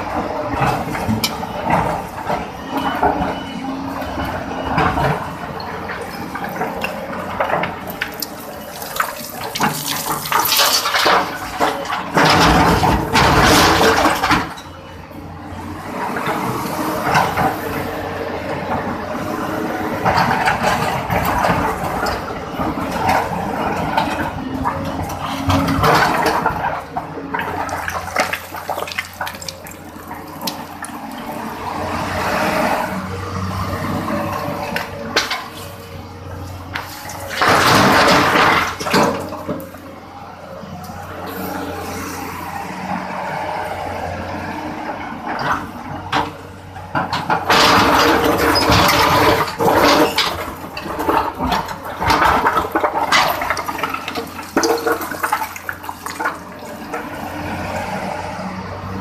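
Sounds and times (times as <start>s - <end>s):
excavator engine and hydraulics: 0.0s - 59.0s.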